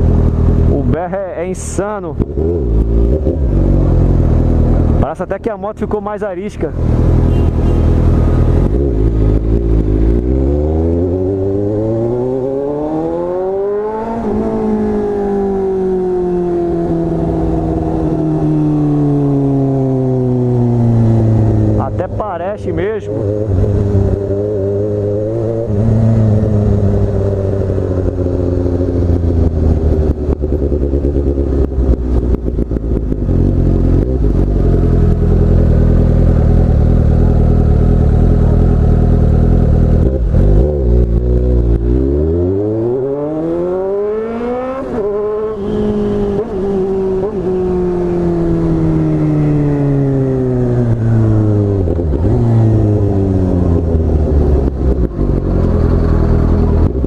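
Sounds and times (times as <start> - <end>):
loud motorcycle engine revving: 1.8 - 5.1, 6.7 - 57.0.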